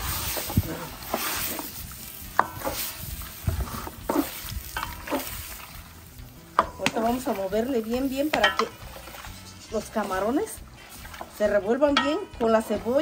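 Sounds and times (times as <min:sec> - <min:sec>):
wooden spoon scraping pot: 0:00.0 - 0:01.8, 0:02.4 - 0:05.7, 0:06.6 - 0:13.0
shrimp sizzling in butter: 0:00.0 - 0:13.0.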